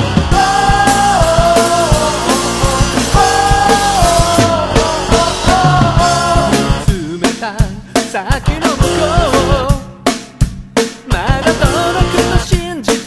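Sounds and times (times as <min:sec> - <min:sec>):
drum kit beat: 0:00.0 - 0:13.0
rock song: 0:00.0 - 0:13.0.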